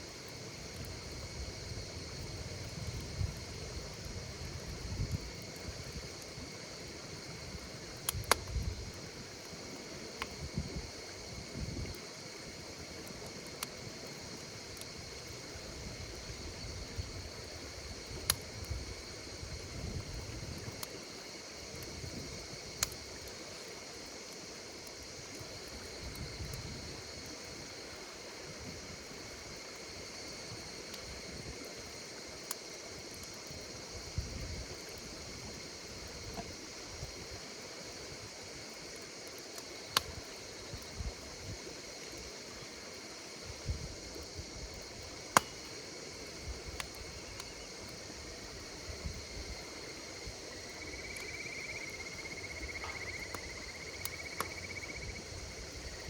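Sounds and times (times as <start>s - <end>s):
insects chirring: 0.0s - 56.0s
wood campfire crackling: 0.0s - 56.0s.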